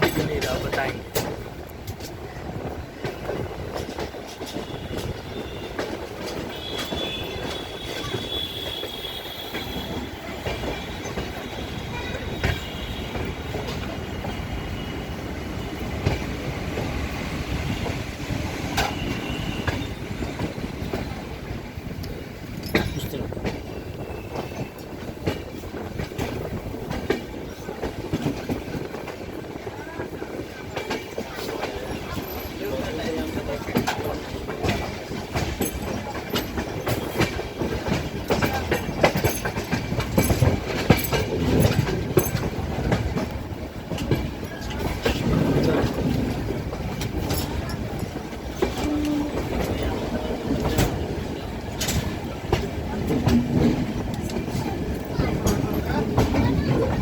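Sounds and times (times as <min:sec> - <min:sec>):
train rumbling on rails: 0:00.0 - 0:57.0
wheels clicking over rail joints: 0:00.0 - 0:57.0.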